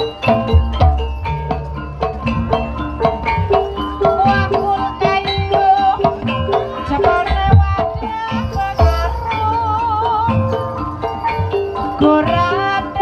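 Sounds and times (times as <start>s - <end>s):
ringing struck metal tones: 0.0s - 13.0s.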